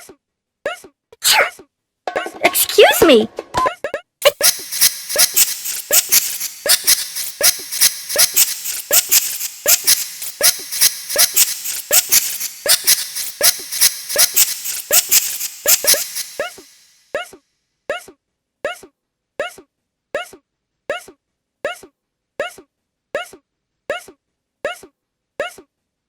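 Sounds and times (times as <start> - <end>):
looped cartoon sneeze sample: 0.0 - 3.1, 3.9 - 25.7.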